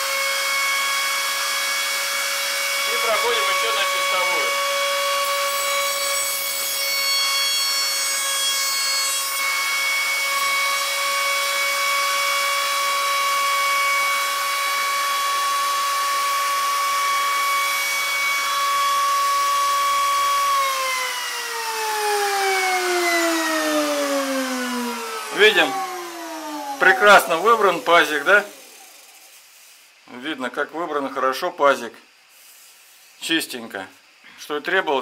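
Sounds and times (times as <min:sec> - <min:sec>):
router bit cutting wood: 0:00.0 - 0:29.4
router motor whine: 0:00.0 - 0:29.5.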